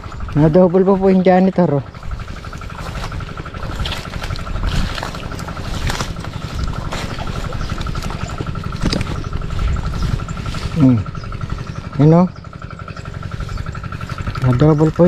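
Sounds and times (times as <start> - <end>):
engine rumbling: 0.0 - 15.0
pulsing high-pitched buzz: 0.0 - 15.0.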